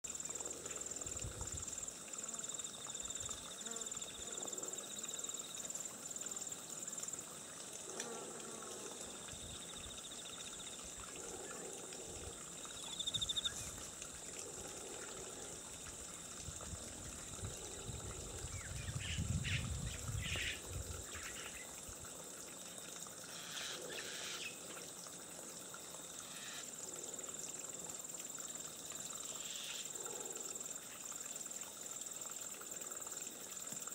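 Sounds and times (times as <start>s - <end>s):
insect trills: 0.0s - 33.9s
trickling water: 0.0s - 33.9s.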